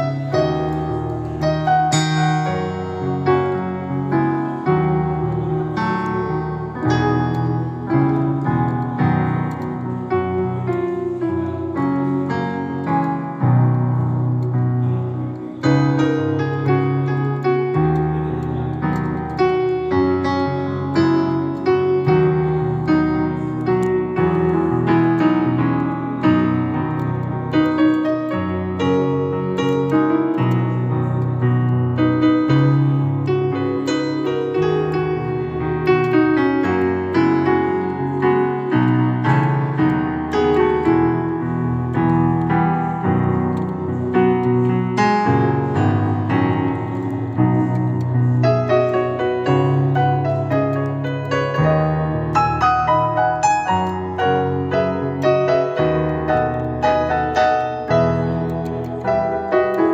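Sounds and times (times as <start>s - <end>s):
keyboard playing piano chords: 0.0s - 59.9s.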